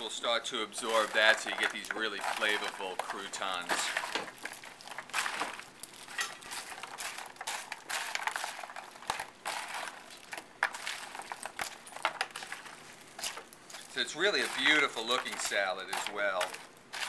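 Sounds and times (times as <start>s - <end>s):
spatula tossing bread in glass dish: 0.6s - 17.0s.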